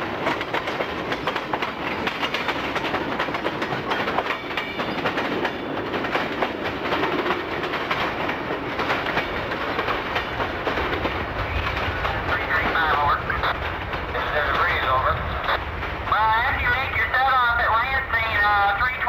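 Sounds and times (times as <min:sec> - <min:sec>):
wheels clicking over rail joints: 0:00.0 - 0:16.1
freight train rolling past: 0:00.0 - 0:19.0.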